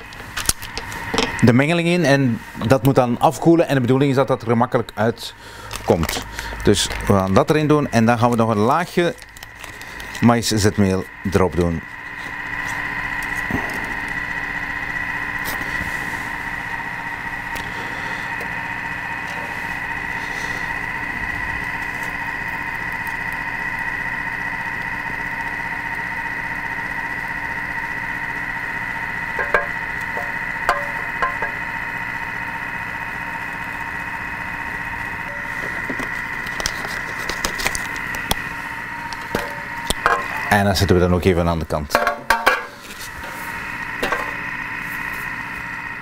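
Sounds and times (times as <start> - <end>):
food processor motor humming: 4.9 - 41.1, 42.7 - 46.0.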